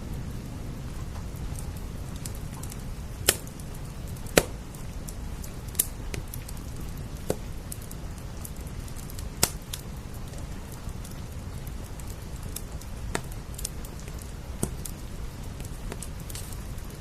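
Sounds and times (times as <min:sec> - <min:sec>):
rain hiss: 0:00.0 - 0:17.0
wood fire crackling and popping: 0:00.0 - 0:17.0.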